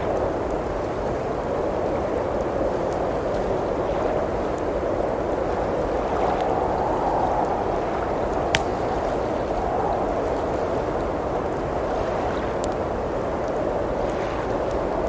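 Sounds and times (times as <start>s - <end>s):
blizzard wind blowing: 0.0s - 15.0s
fire popping: 0.0s - 15.0s
wood fire crackling: 0.0s - 15.0s.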